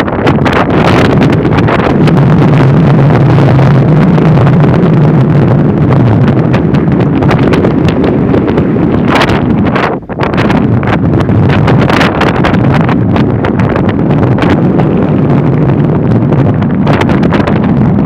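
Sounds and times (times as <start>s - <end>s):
heavy rain: 0.0s - 18.0s
storm wind buffeting microphone: 0.0s - 18.0s.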